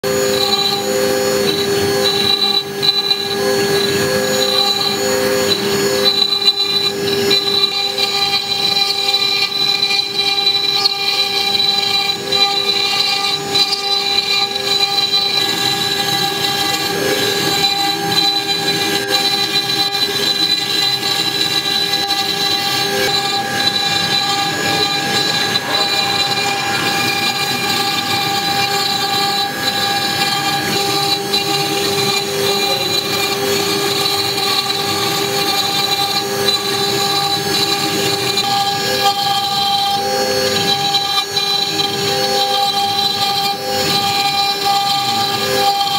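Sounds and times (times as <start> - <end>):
rough grinding of stone cutting: 0.0 - 45.9
router spindle whine: 0.0 - 45.9.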